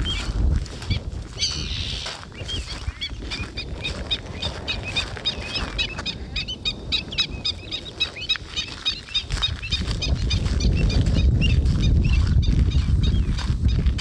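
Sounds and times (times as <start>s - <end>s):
birds alarm calling: 0.0s - 14.0s.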